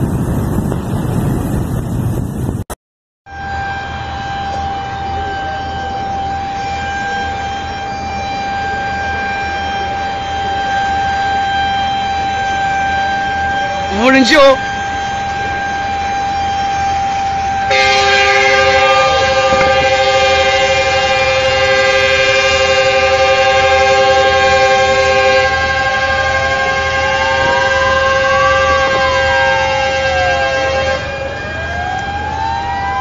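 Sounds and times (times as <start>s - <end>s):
siren wailing up and down: 3.3s - 33.0s
steady alarm tones: 3.3s - 33.0s.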